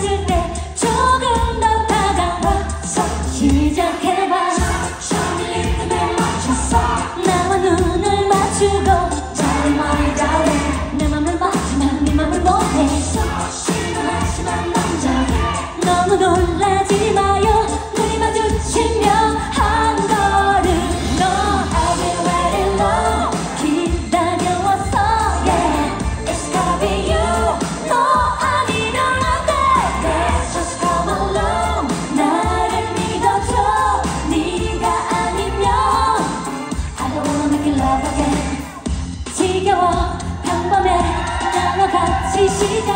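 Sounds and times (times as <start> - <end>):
backing track with pulsing bass: 0.0 - 3.9, 4.6 - 42.9
woman singing into microphone: 0.0 - 38.7, 39.3 - 42.9.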